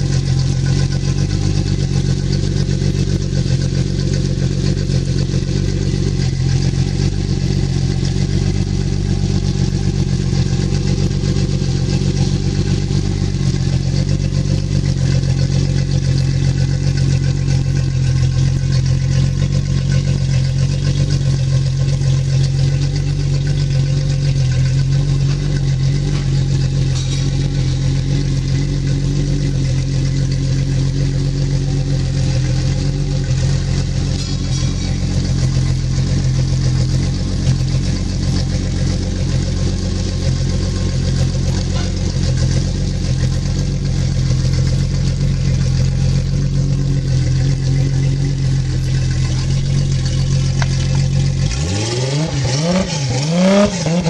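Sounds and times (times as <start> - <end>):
outboard motor idling: 0.0 - 54.0.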